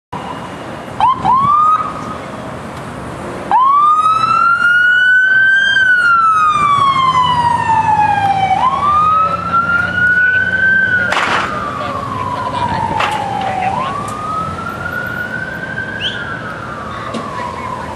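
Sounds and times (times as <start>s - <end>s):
fire engine siren wailing: 0.2s - 2.2s, 3.5s - 17.9s.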